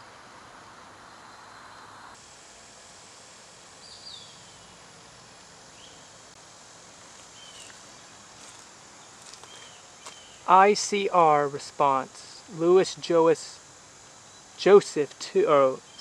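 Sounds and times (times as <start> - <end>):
insects humming: 0.0 - 16.0.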